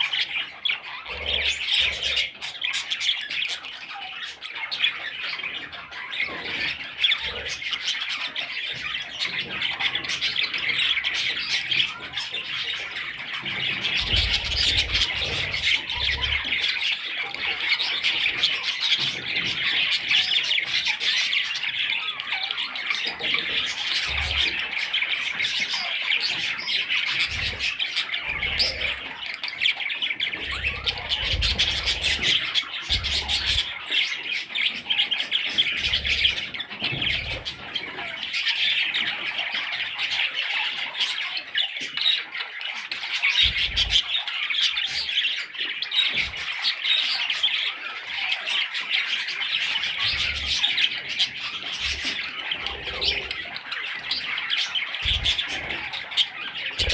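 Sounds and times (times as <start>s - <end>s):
bird chicks raspy chatter: 0.0s - 56.9s.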